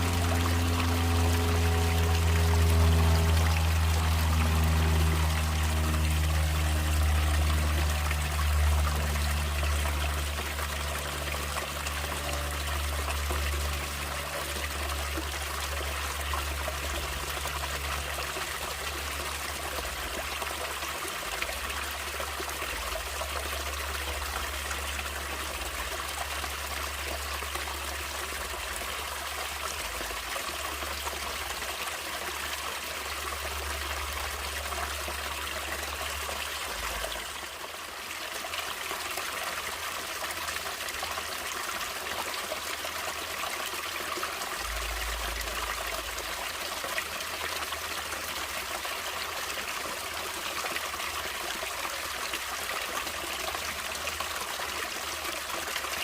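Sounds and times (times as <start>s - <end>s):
stream trickling and splashing: 0.0s - 56.0s.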